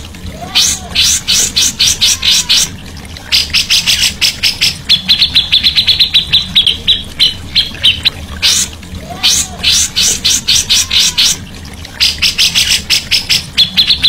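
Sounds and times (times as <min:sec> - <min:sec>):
low hum: 0:00.0 - 0:14.0
songbird calling: 0:00.0 - 0:14.0.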